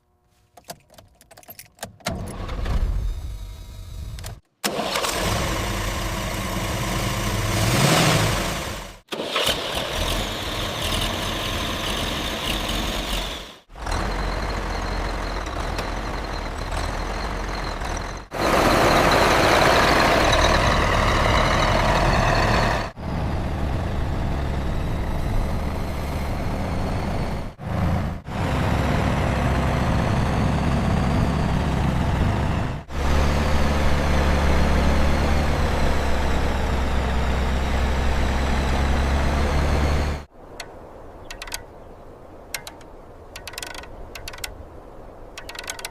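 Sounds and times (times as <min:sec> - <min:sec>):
diesel truck engine running: 0:03.0 - 0:40.3.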